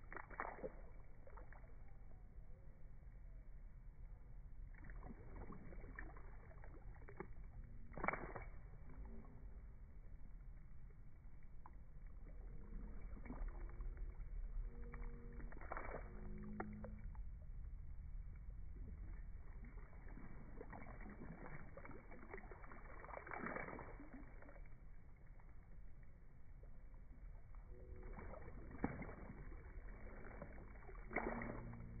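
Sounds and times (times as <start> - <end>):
boots wading through puddle: 0.0 - 2.6, 4.4 - 32.0.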